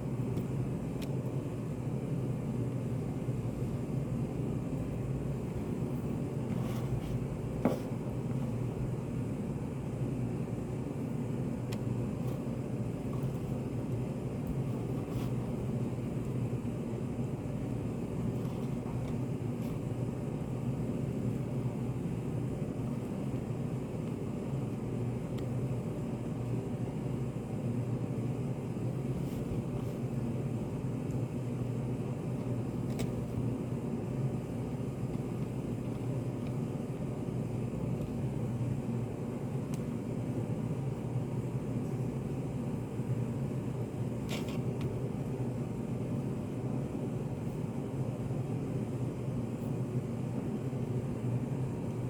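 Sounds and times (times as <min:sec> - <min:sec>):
low room hum and rumble: 0:00.0 - 0:52.0.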